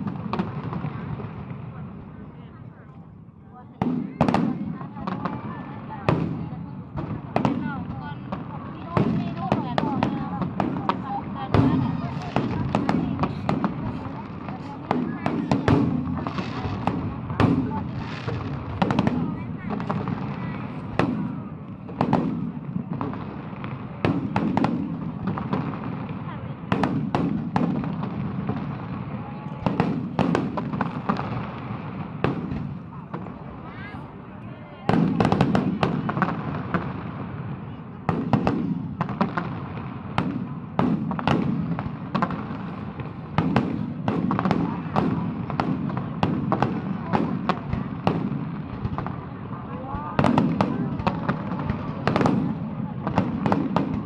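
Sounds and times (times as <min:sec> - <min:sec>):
fireworks exploding: 0:00.0 - 0:54.0.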